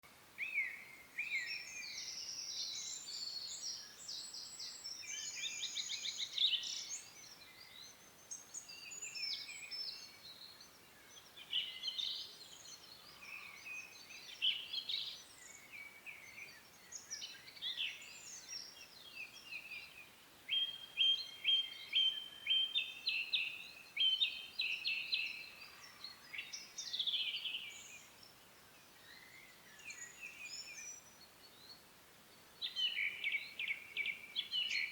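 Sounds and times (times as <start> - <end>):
songbirds singing: 0.3 - 34.9.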